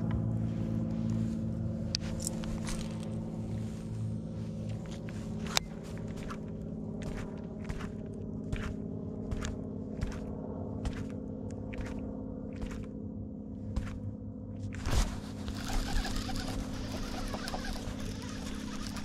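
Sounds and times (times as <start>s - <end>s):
boat hum: 0.0s - 19.0s.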